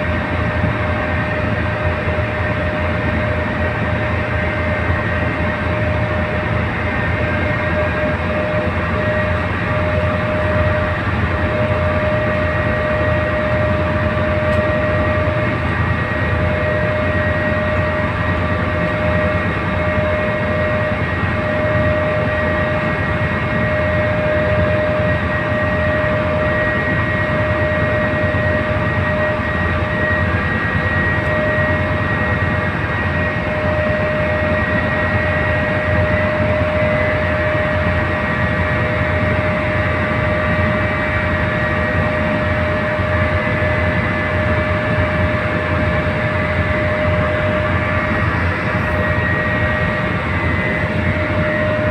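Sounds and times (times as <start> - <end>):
steady engine whine: 0.0 - 51.9.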